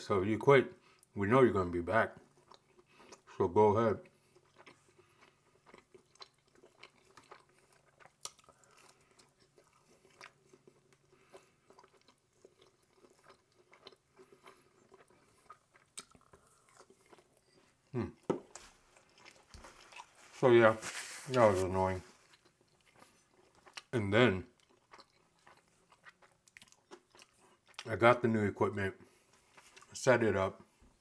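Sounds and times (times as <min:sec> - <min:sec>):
person chewing food: 0:02.2 - 0:03.4, 0:04.0 - 0:28.0, 0:29.0 - 0:30.0.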